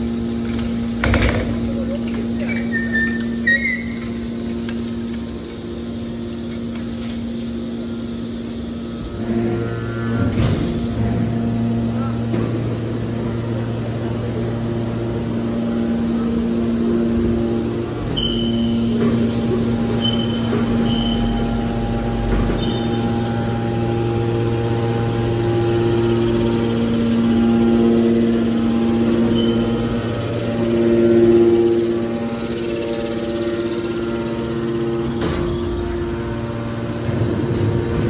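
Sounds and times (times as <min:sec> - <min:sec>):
hydraulic press motor hum: 0:00.0 - 0:38.0.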